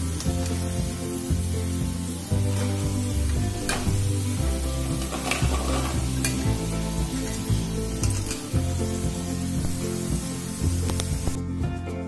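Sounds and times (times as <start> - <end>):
fries sizzling in hot oil: 0.0 - 11.6
background music with bass: 0.0 - 12.0.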